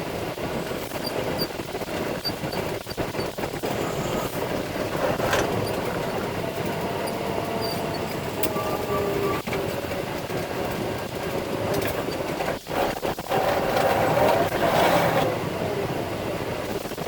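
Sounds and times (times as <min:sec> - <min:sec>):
concrete mixer truck running: 0:00.0 - 0:17.0.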